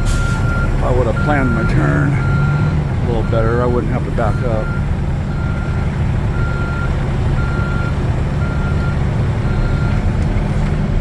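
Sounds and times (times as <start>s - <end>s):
truck engine running: 0.0s - 11.0s
backup alarm beeps: 0.1s - 10.0s.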